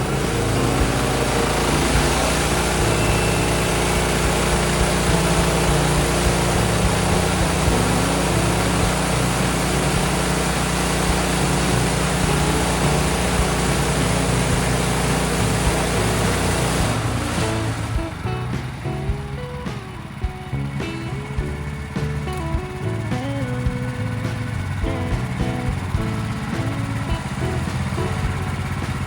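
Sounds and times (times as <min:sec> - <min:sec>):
sawmill engine hum: 0:00.0 - 0:29.0.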